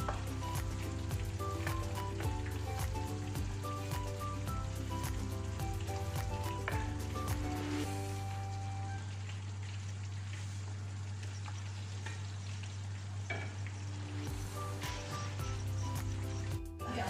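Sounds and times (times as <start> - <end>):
food sizzling in a frying pan: 0.0 - 9.1, 11.2 - 17.0.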